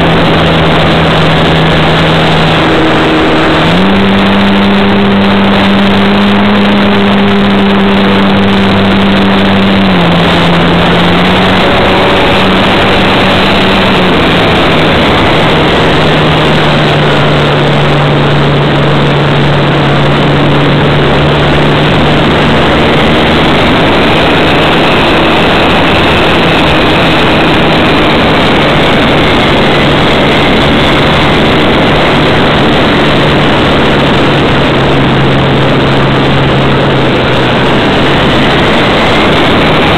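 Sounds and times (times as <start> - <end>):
model airplane motor running: 0.0 - 39.9
wind noise: 0.0 - 39.9.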